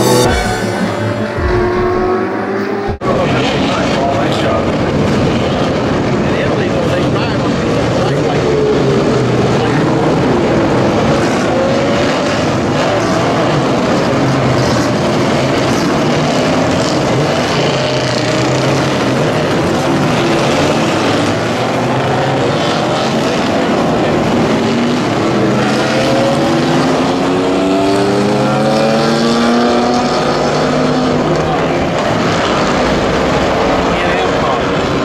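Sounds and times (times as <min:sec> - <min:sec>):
race car engines: 0:00.0 - 0:35.0.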